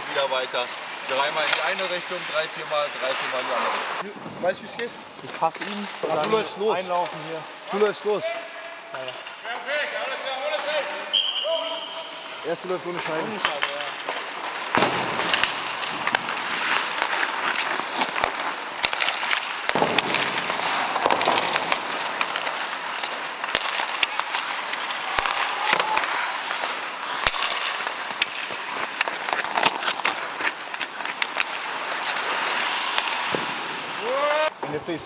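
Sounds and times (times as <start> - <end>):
sticks hitting pucks: 0.0 - 8.2, 10.3 - 11.1, 12.6 - 35.0
skates scraping ice: 0.0 - 35.0.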